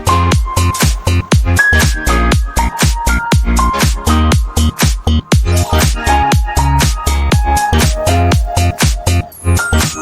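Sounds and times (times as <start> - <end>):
kick drum beat: 0.0 - 9.1
electronic dance music: 0.0 - 10.0
synth melody: 0.0 - 10.0.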